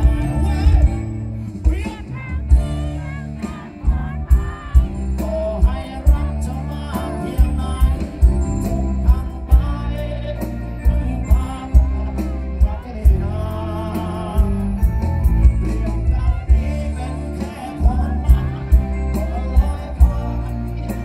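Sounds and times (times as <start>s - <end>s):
bass guitar: 0.0s - 21.0s
man singing into microphone: 0.0s - 21.0s
steady drum beat: 0.0s - 21.0s.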